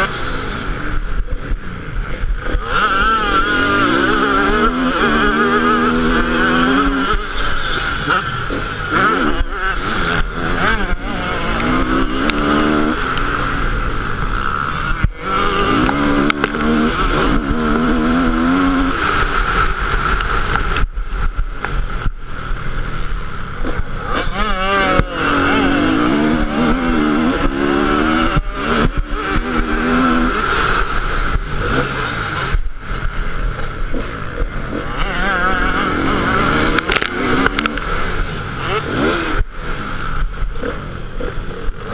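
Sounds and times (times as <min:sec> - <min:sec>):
motocross bike engine revving: 0:00.0 - 0:41.9
steady rushing noise: 0:00.0 - 0:41.9.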